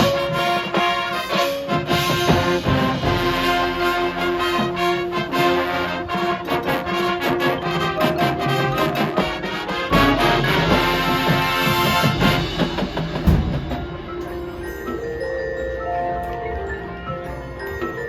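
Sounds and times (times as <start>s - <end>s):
marching band brass chords: 0.0s - 14.6s
driving percussion beat: 0.0s - 18.0s.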